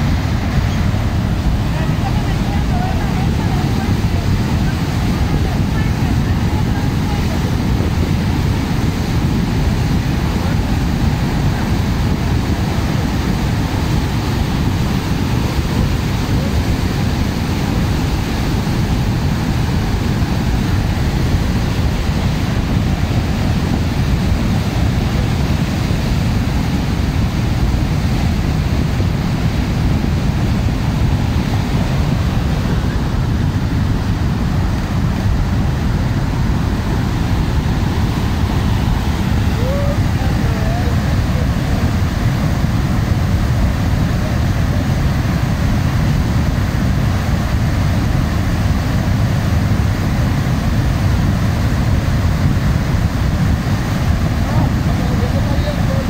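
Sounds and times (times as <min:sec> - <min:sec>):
mudflow rushing down river: 0:00.0 - 0:56.0.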